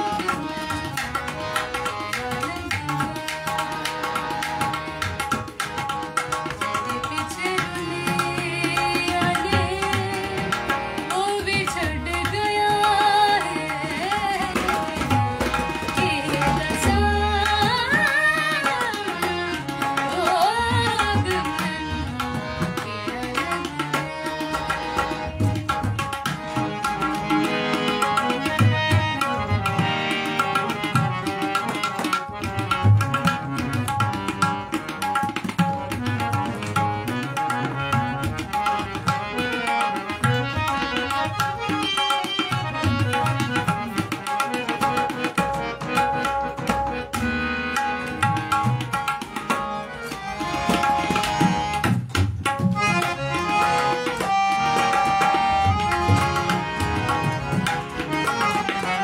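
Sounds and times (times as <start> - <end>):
hand drum rhythm: 0.0 - 59.0
harmonium: 0.0 - 59.0.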